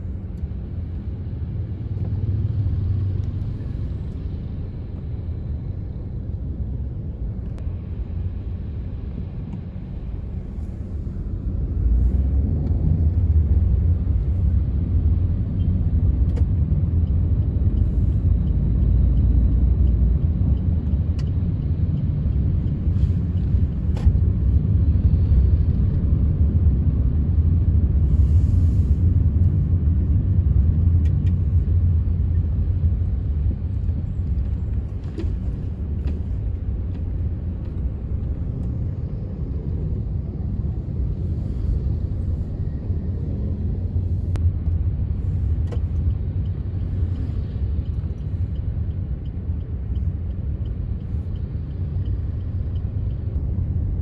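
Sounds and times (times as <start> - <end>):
road noise: 0.0 - 54.0
vehicle engine rumble: 0.0 - 54.0.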